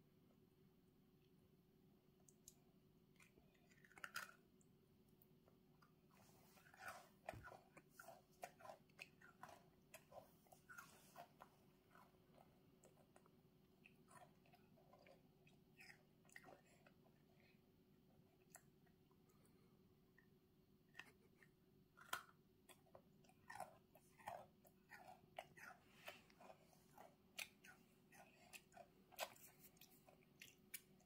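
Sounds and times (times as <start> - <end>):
toddler chewing crunchy cookie: 2.3 - 4.7, 5.6 - 19.3, 20.1 - 31.0.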